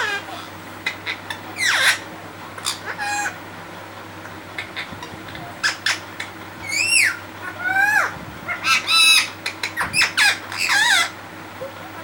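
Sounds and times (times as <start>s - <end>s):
parakeet squawking: 0.0s - 3.4s, 4.5s - 11.2s.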